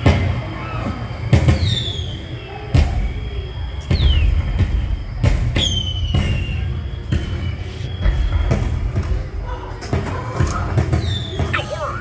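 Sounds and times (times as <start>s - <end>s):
falling whistles: 0.0s - 9.5s, 10.8s - 12.0s.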